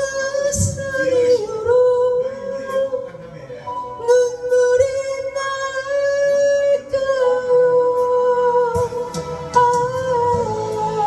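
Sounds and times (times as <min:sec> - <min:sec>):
acoustic guitar: 0:00.0 - 0:11.0
person singing long notes: 0:00.0 - 0:11.0.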